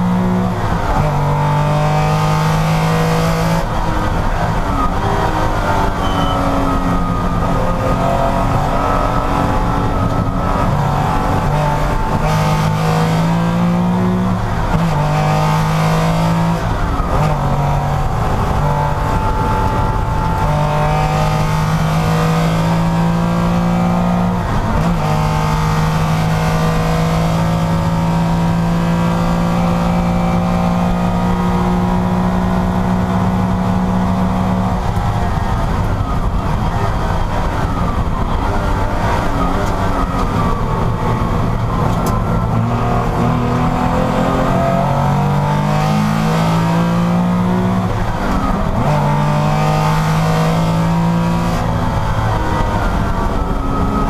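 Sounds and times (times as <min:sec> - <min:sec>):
race car engine shifting gears: 0:00.0 - 0:54.0.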